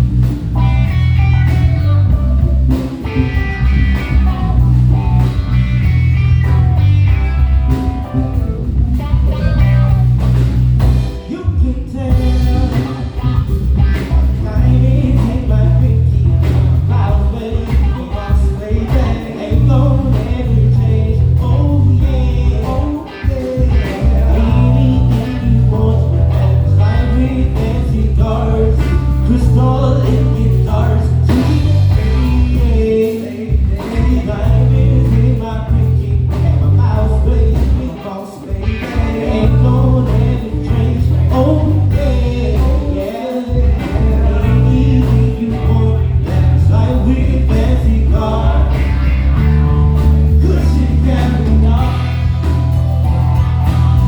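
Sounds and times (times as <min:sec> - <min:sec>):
pulsing bass line: 0:00.0 - 0:22.9, 0:23.5 - 0:32.9, 0:33.5 - 0:37.9, 0:38.6 - 0:54.0
drums: 0:00.0 - 0:54.0
live band playing soul blues: 0:00.0 - 0:54.0.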